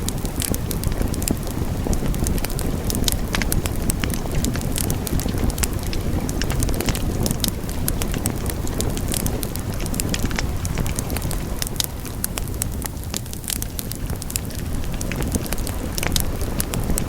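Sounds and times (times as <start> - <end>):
fire crackles and pops: 0.0 - 17.0
wood fire rumbling: 0.0 - 17.0.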